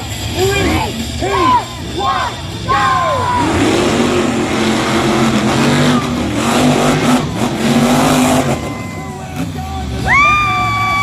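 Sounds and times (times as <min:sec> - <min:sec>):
monster truck engines at full throttle: 0:00.0 - 0:11.0.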